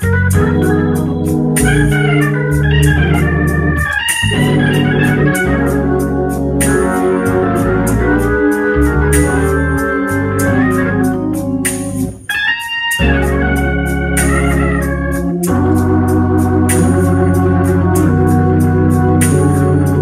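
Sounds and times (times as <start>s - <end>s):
hammond organ chords: 0.0s - 20.0s
organ bass line: 0.0s - 20.0s.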